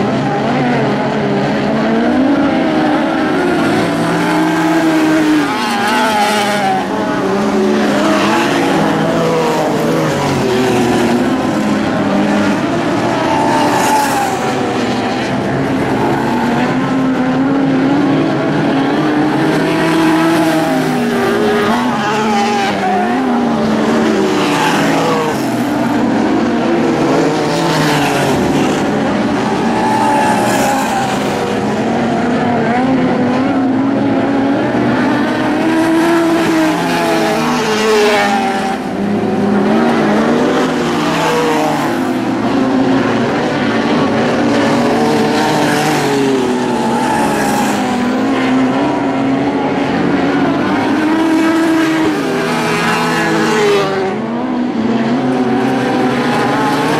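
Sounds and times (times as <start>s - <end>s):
racing car engines: 0.0s - 56.9s.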